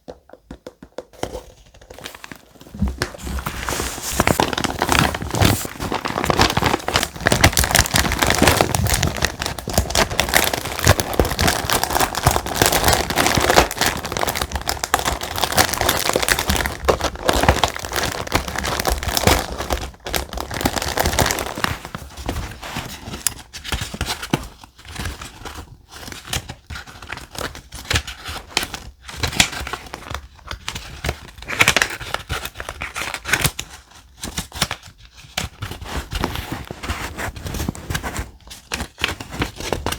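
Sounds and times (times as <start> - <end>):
thick paper crinkling: 1.2 - 39.9.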